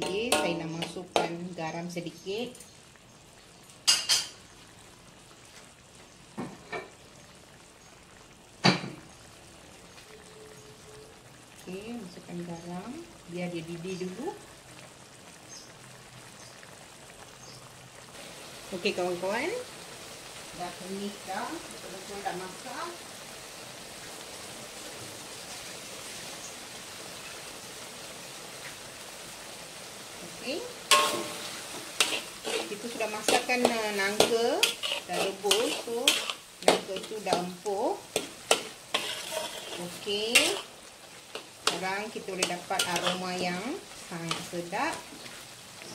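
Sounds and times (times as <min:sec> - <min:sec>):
curry bubbling in a wok: 0:00.0 - 0:45.9.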